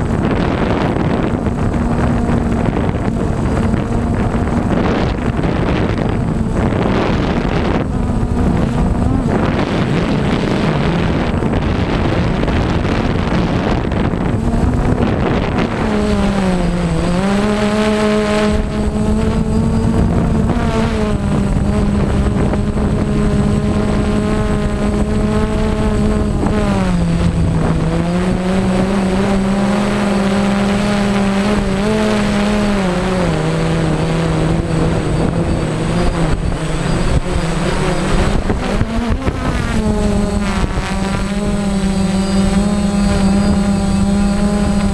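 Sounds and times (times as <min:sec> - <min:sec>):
drone motors humming: 0:00.0 - 0:44.9
wind on microphone: 0:00.0 - 0:44.9.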